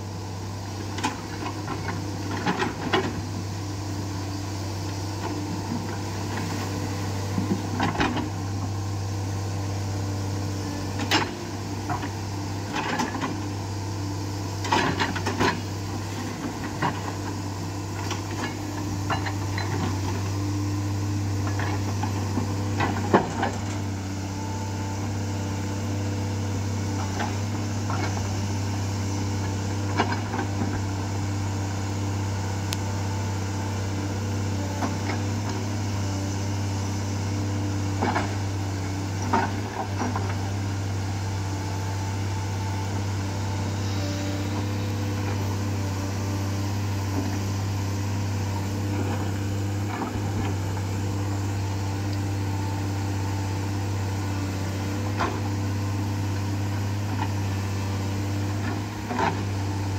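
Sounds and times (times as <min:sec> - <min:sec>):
excavator diesel engine running: 0:00.0 - 0:59.9
hydraulic whine: 0:00.0 - 0:59.9.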